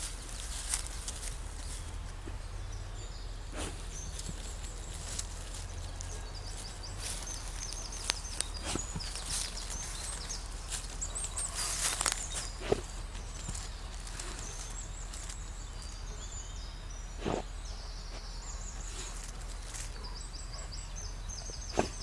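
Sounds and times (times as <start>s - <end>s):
dog digging in soil and leaves: 0.0s - 2.5s, 3.5s - 16.6s, 17.2s - 22.0s.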